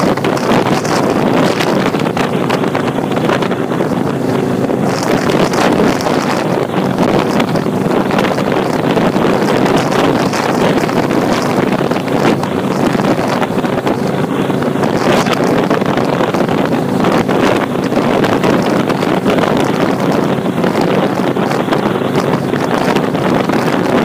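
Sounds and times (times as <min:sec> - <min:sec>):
motorcycle engine running: 0:00.0 - 0:24.0
wind noise on microphone: 0:00.0 - 0:24.0.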